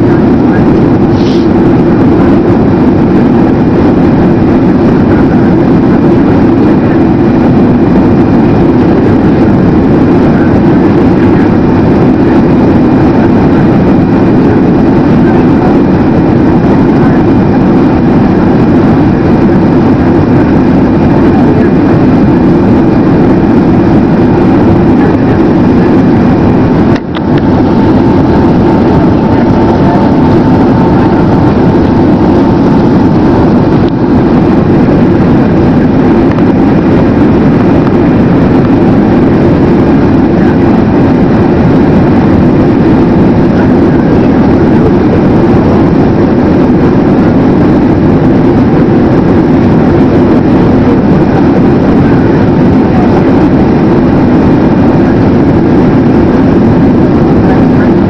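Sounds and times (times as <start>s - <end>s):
airliner cabin engine rush: 0.0s - 58.0s.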